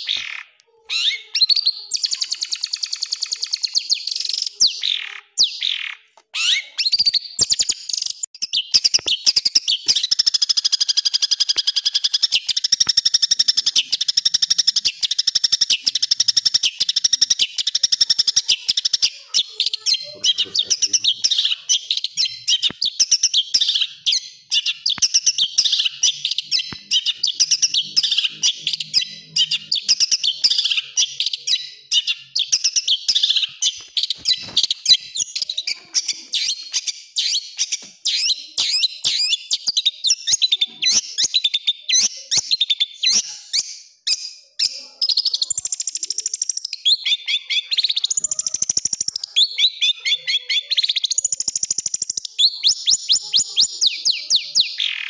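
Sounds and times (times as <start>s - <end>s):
bird chattering and trilling: 0.0s - 55.0s.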